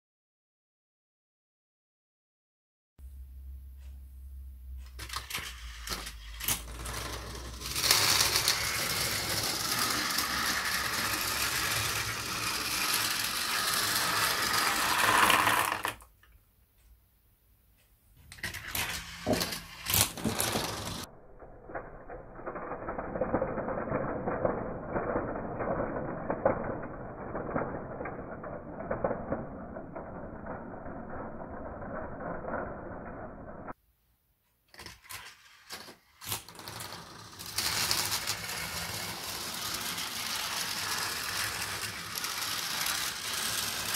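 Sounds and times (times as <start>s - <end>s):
steel marbles rattling on marble run: 5.0s - 16.0s, 18.4s - 33.7s, 34.8s - 43.9s.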